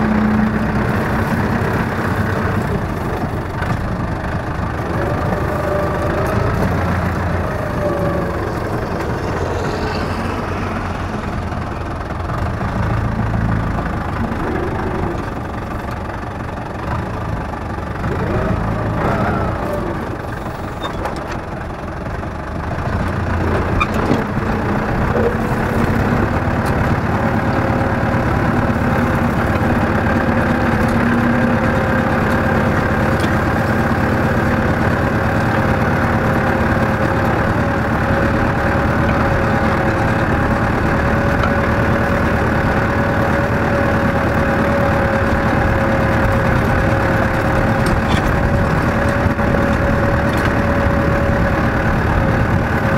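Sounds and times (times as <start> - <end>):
tractor engine under load: 0.0 - 52.9.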